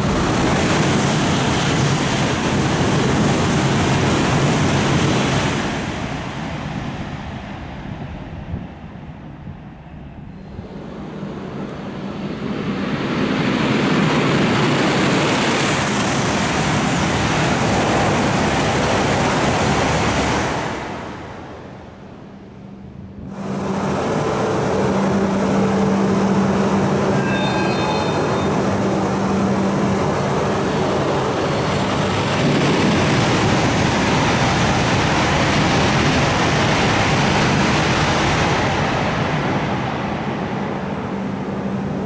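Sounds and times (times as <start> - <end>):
high-speed train passing: 0.0 - 42.0.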